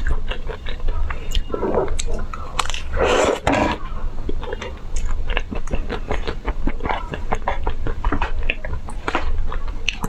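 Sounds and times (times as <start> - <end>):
chewing crunchy ice cream: 0.0 - 10.0.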